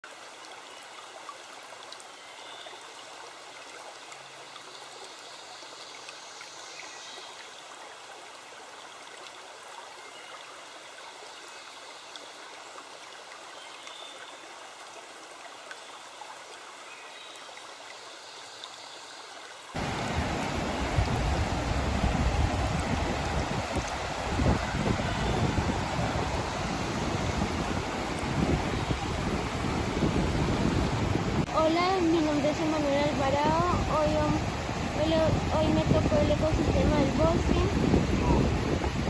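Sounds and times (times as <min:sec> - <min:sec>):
stream running: 0:00.0 - 0:39.0.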